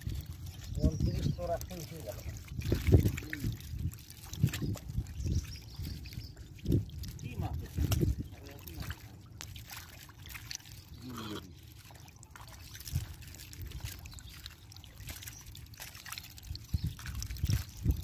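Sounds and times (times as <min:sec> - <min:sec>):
water trickling and splashing: 0:00.0 - 0:18.0
wet mud squelching: 0:00.0 - 0:18.0.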